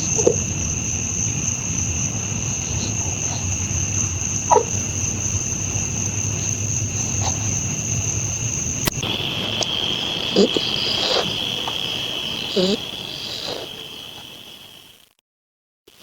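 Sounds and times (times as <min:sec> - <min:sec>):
low background rumble: 0:00.0 - 0:14.2
crickets chirring: 0:00.0 - 0:15.1.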